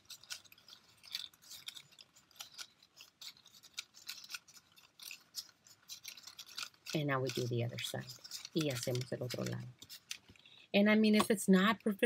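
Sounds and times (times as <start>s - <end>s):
paper crinkling and rustling: 0.0s - 10.6s.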